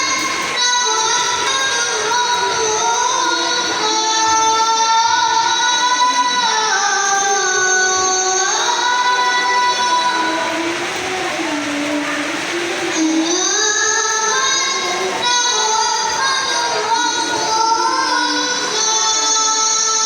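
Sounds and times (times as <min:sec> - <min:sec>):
child chanting recitation: 0:00.0 - 0:20.0.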